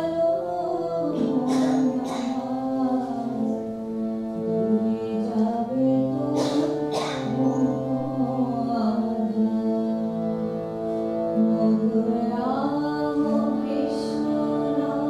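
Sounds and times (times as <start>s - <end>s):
woman singing long notes: 0.0s - 3.6s, 4.4s - 10.2s, 11.4s - 15.0s
harmonium chords: 0.0s - 15.0s.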